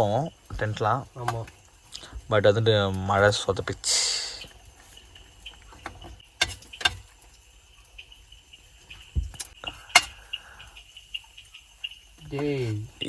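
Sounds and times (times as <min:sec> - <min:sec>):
faint high pulsing chirp: 0:00.0 - 0:13.0.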